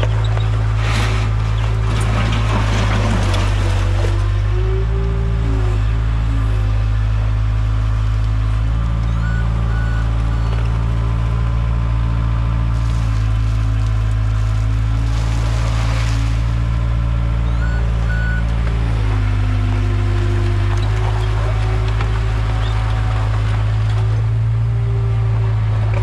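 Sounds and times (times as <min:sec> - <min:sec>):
skid steer diesel engine running: 0:00.0 - 0:26.0.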